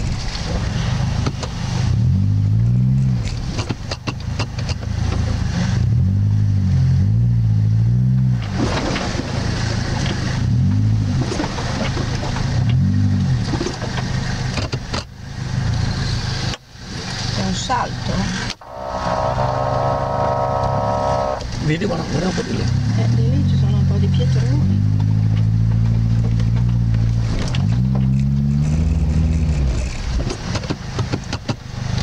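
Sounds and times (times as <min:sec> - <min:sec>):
off-road vehicle engine revving: 0:04.3 - 0:14.6, 0:15.3 - 0:31.1.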